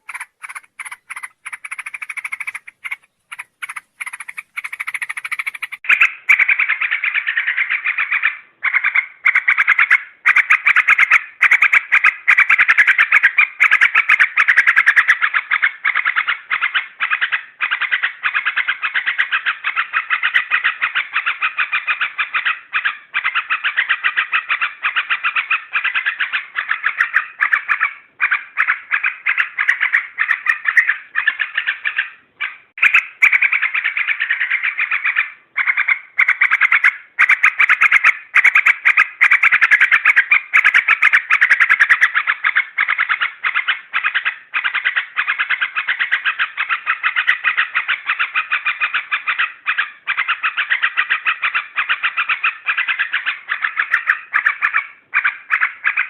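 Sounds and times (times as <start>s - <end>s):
bird chattering: 0.0s - 56.0s.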